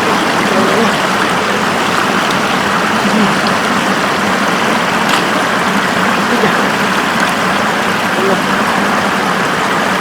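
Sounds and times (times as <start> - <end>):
rush of flowing floodwater: 0.0 - 10.0.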